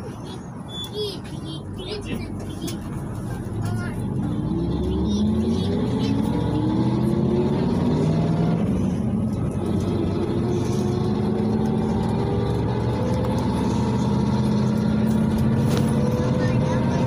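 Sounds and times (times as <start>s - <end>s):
bus engine running: 0.0s - 17.0s
road rumble: 0.0s - 17.0s.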